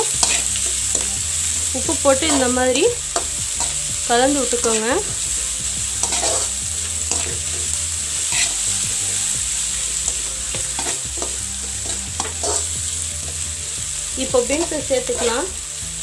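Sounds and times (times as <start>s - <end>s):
metal spatula scraping a pan: 0.0s - 13.7s, 14.3s - 15.6s
vegetables sizzling in oil: 0.0s - 16.0s.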